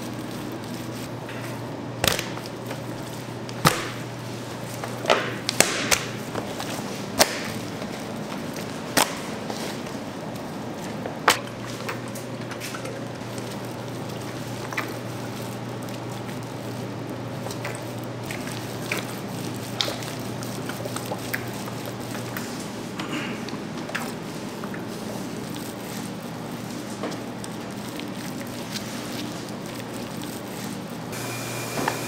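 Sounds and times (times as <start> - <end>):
wet handling of raw meat: 0.0 - 31.2
steady low hum: 0.0 - 32.0.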